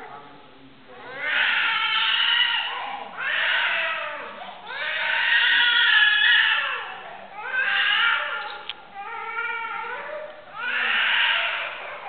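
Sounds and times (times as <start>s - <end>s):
infant crying: 1.1s - 12.0s.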